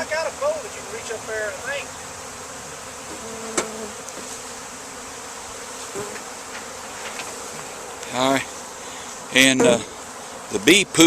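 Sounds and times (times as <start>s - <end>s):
bee buzzing past microphone: 0.0s - 11.0s
bee swarm buzzing: 0.0s - 11.0s.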